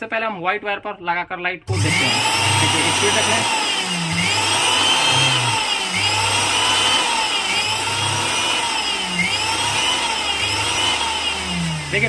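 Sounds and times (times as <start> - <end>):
electric motor whine rising and falling: 1.7 - 12.0
low motor hum: 1.7 - 12.0.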